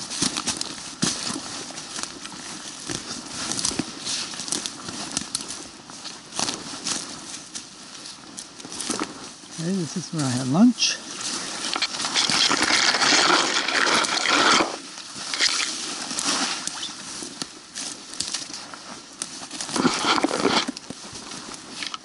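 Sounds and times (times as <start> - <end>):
footsteps through crackling undergrowth: 0.0 - 22.0.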